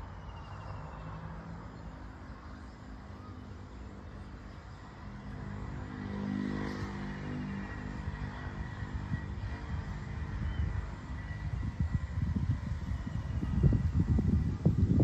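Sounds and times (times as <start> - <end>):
low rumble of motor traffic: 0.0 - 15.0
vehicle engine hum: 0.0 - 15.0.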